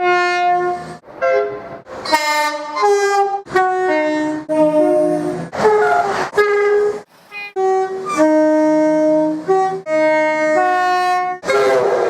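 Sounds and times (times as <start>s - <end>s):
two-tone train horn: 0.0s - 12.0s.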